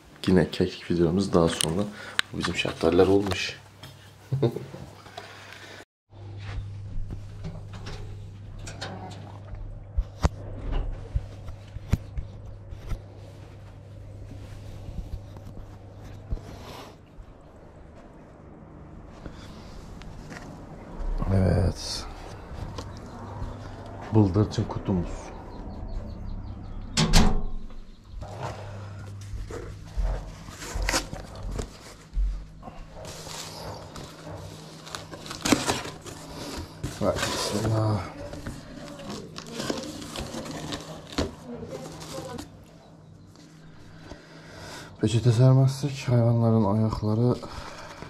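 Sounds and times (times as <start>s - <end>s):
steady low hum: 5.3s - 48.0s.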